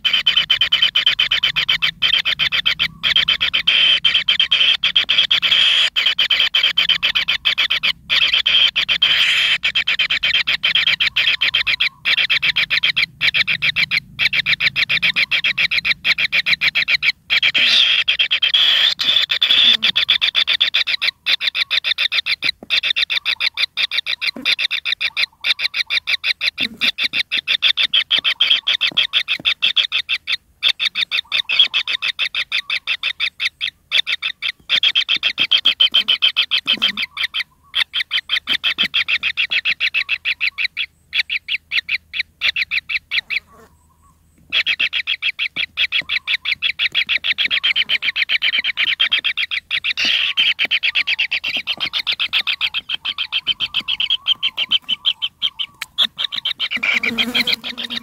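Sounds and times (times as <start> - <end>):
nestlings rasping begging calls: 0.0 - 58.0.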